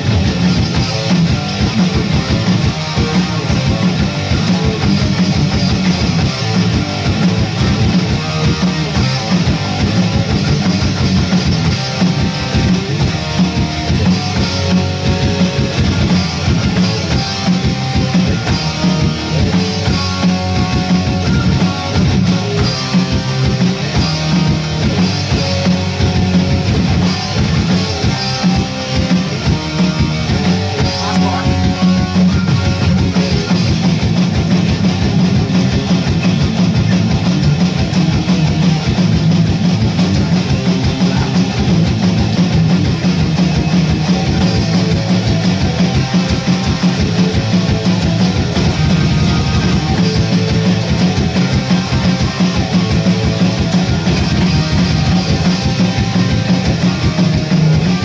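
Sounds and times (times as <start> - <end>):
drum kit: 0.0 - 58.0
heavy metal song: 0.0 - 58.0
loud electric guitars: 0.0 - 58.0.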